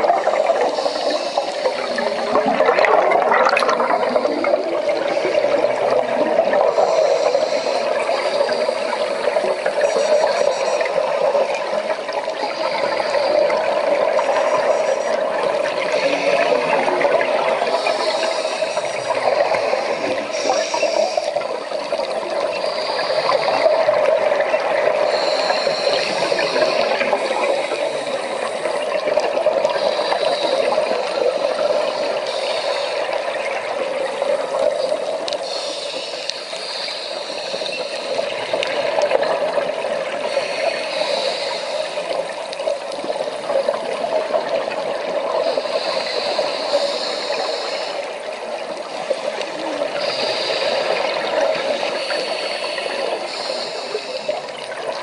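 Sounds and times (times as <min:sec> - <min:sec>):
underwater watery rush: 0:00.0 - 0:55.0.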